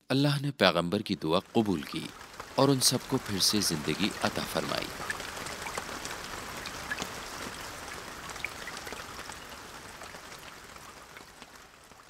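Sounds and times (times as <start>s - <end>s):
soft rain-like hiss: 0.2s - 12.0s.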